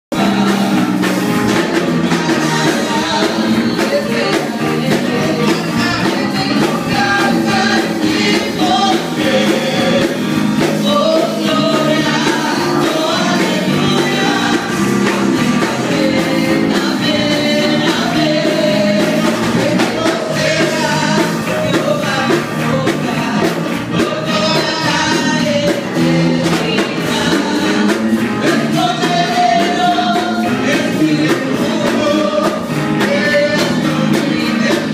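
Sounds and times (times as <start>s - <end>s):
gospel band with electric bass: 0.1s - 34.9s
man and woman singing: 0.1s - 34.9s.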